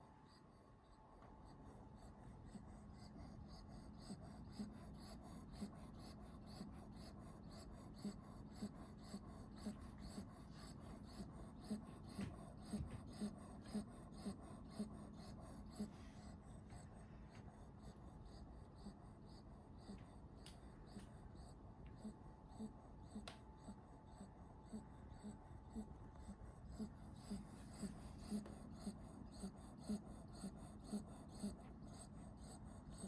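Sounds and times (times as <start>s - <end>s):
puppy snoring: 1.4s - 33.0s.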